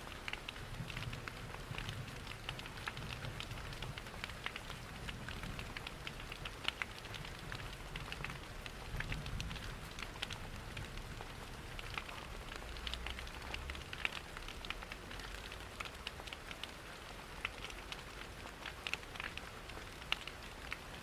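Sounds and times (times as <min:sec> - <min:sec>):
steady rain: 0:00.0 - 0:21.0
wood fire crackling: 0:00.2 - 0:21.0.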